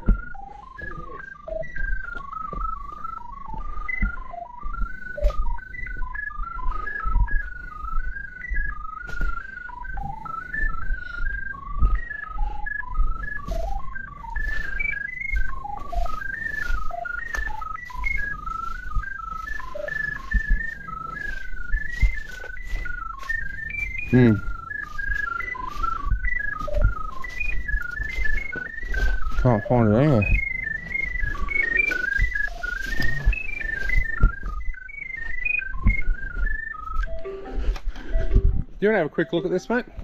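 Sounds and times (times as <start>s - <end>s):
dull thumps from footsteps: 0.0s - 37.2s
receiver beeping: 0.0s - 40.0s.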